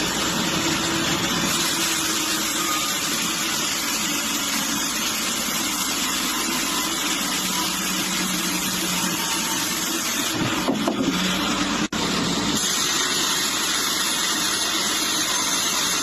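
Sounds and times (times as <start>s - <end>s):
sawmill machinery hum and hiss: 0.0s - 16.0s.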